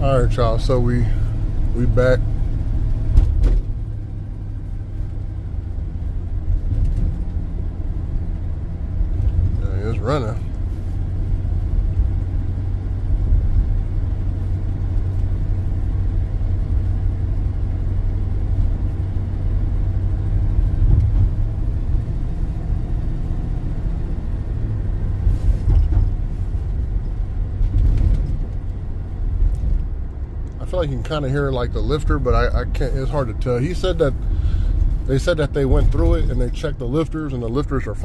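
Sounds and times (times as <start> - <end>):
road rumble: 0.0 - 38.0
van engine drone: 0.0 - 38.0.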